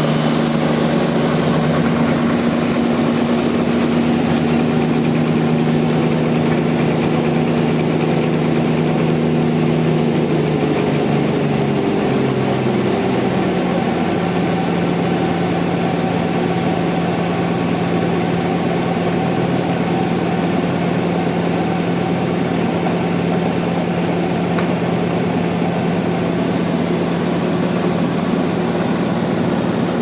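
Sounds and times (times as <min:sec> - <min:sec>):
sawmill machinery humming: 0:00.0 - 0:30.0.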